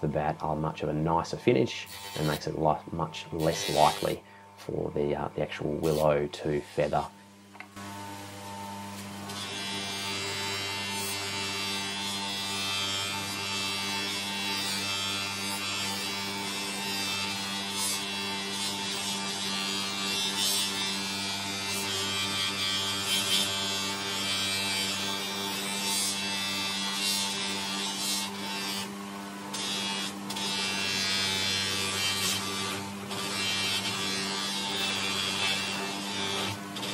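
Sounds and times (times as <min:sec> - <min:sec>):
bench buffer humming: 0:00.0 - 0:36.9
wood rubbing on buffing wheel: 0:01.5 - 0:04.8, 0:05.6 - 0:07.1, 0:09.2 - 0:36.9.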